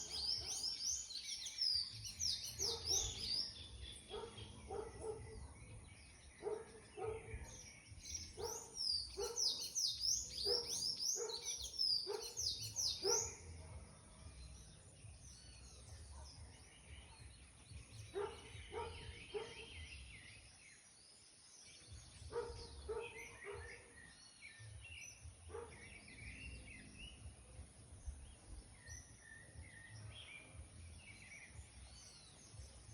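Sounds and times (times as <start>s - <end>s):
wild birds singing: 0.0s - 32.9s.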